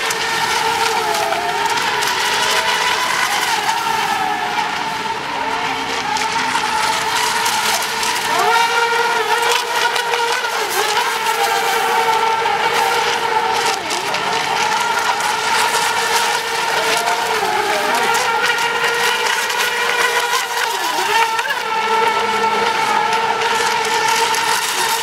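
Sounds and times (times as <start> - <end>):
rc boat motors whining: 0.0 - 25.0.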